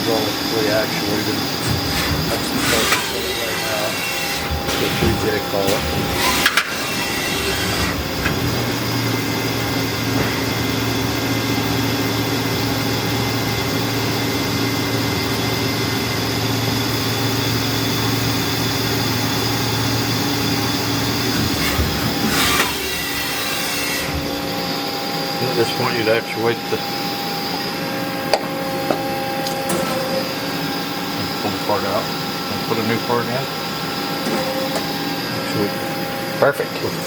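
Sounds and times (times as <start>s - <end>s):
low machine tone: 0.0s - 37.0s
machine hum: 0.0s - 37.0s.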